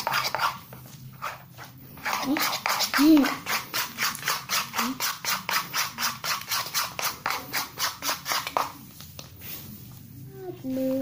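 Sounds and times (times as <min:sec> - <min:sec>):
spoon scraping bowl: 0:00.0 - 0:09.0.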